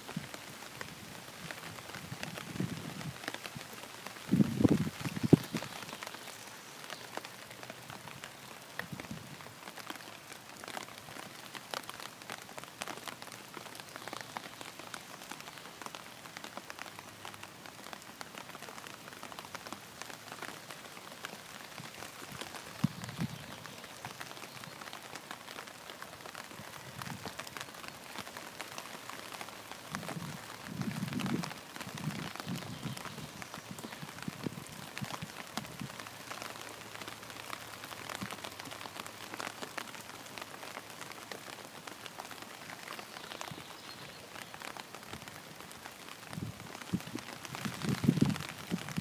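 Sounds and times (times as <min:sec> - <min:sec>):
rain falling on pond water: 0:00.0 - 0:49.0.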